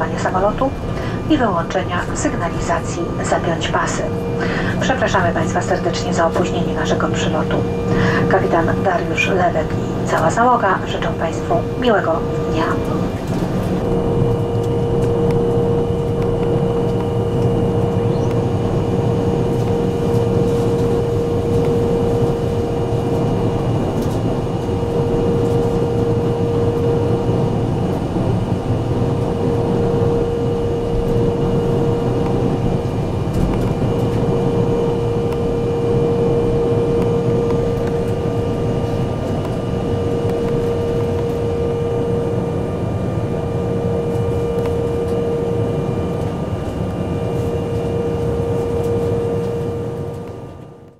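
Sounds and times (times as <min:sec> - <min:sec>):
jet engines rushing and humming: 0:00.0 - 0:50.9
steady droning tone: 0:00.0 - 0:50.9.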